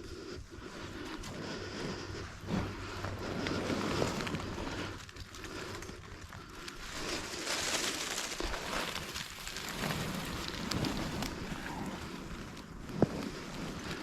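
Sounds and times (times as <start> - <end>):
noisy outdoor background: 0.0 - 14.0.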